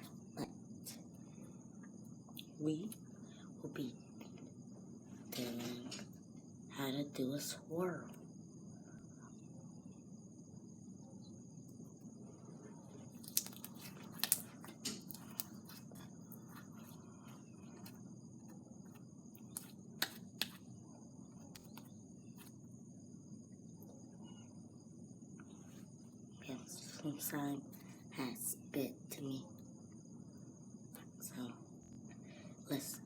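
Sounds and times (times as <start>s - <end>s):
faint room hum: 0.0s - 33.0s.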